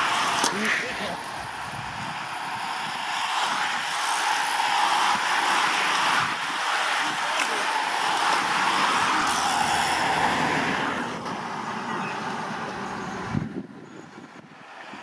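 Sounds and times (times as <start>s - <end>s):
rushing road noise: 0.0s - 15.0s.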